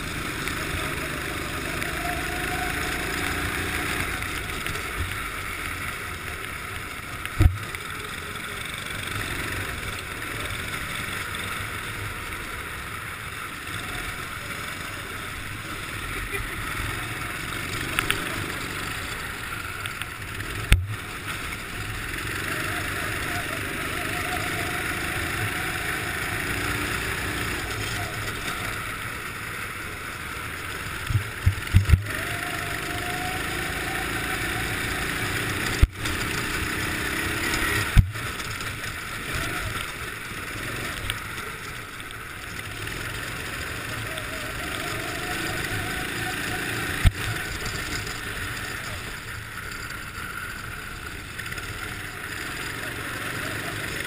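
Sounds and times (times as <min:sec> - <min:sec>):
kart engine running: 0:00.0 - 0:54.0
wind and tyre noise: 0:00.0 - 0:54.0.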